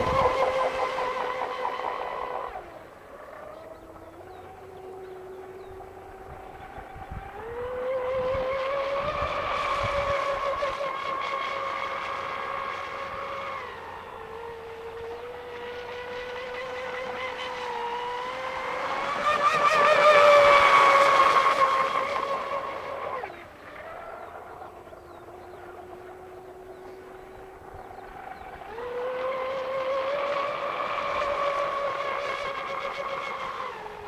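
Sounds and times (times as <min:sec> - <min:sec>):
rc boat motor whine: 0:00.0 - 0:34.0.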